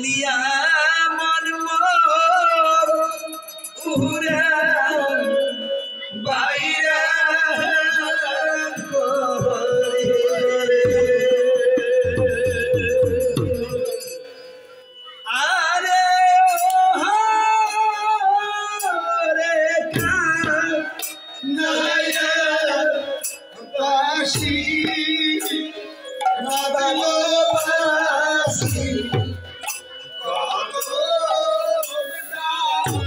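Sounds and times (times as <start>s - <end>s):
men singing devotional song: 0.0s - 14.2s, 15.2s - 33.0s.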